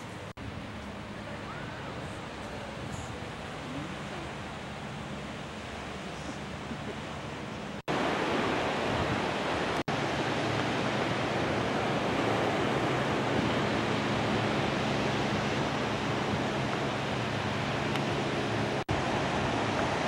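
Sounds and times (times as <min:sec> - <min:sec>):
surf breaking on beach: 0:01.1 - 0:20.0.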